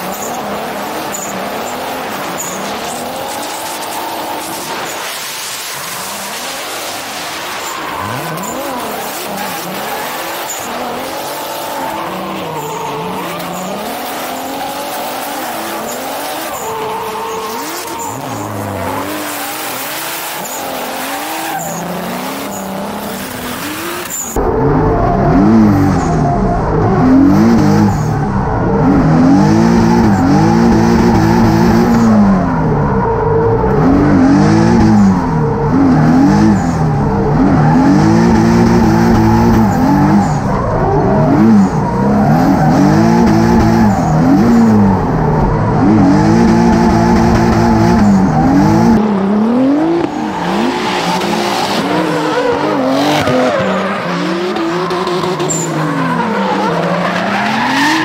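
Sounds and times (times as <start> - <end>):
car engine revving: 0.0 - 58.0
tyres squealing and skidding: 0.0 - 58.0.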